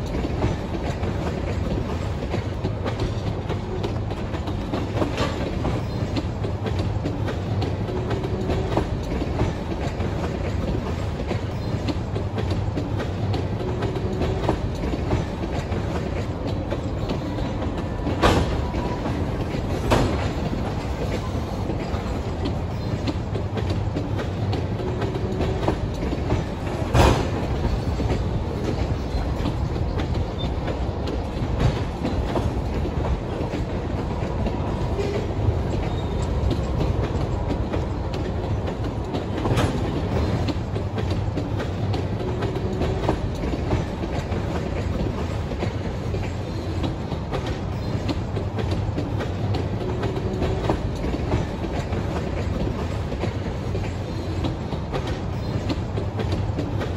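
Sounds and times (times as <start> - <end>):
clickety-clack of wheels: 0.0 - 56.9
train wheels rumbling on rail: 0.0 - 56.9.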